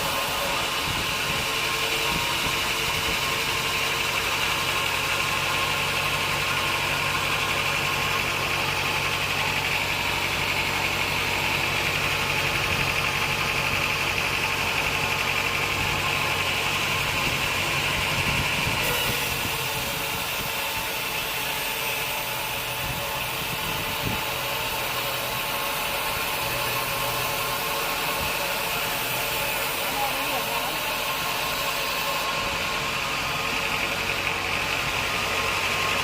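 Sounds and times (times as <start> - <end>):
saw whining: 0.0 - 36.0
sawmill motor hum: 0.0 - 36.0.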